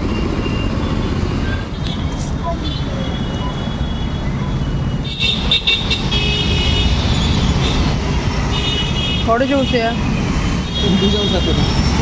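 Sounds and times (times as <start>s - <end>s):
traffic rumble: 0.0s - 12.0s
vehicle horns: 1.7s - 11.8s.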